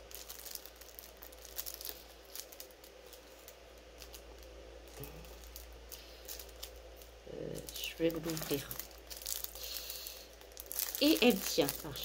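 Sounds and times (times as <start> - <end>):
low steady hum: 0.0 - 12.0
plastic bag rustling: 0.0 - 12.0.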